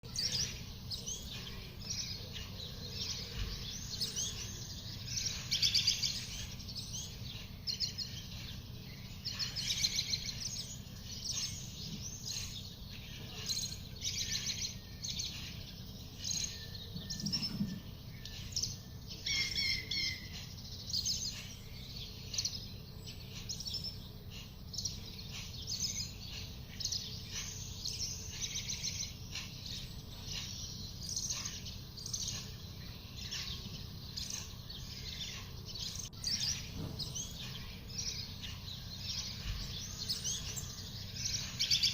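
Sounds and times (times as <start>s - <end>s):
young bird chirping: 0.0s - 41.9s.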